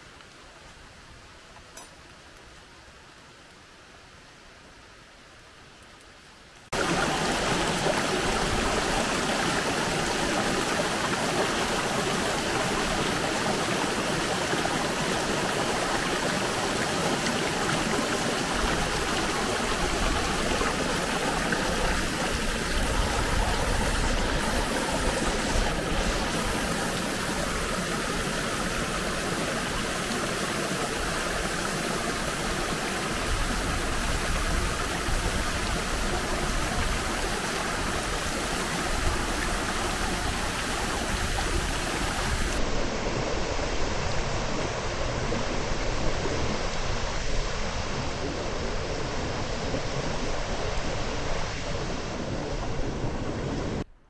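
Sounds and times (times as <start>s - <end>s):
mountain stream rushing: 6.2s - 53.9s.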